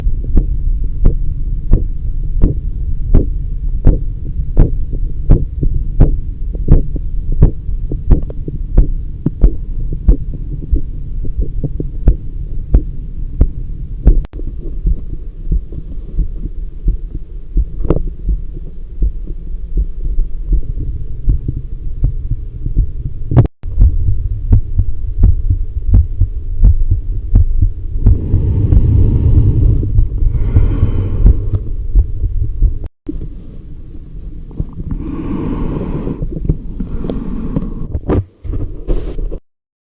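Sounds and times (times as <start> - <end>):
heartbeat thumps: 0.0 - 32.9
steady low rumble: 0.0 - 39.4.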